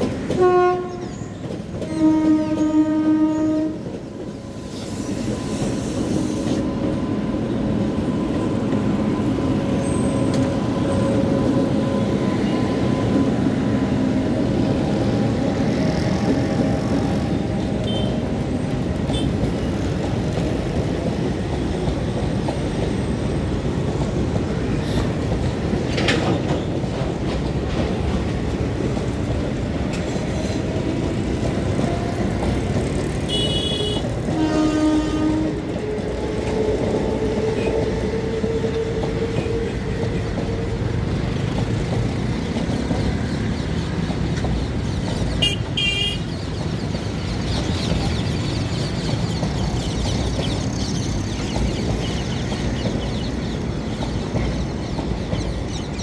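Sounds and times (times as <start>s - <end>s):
electric locomotive hum: 0.0s - 56.0s.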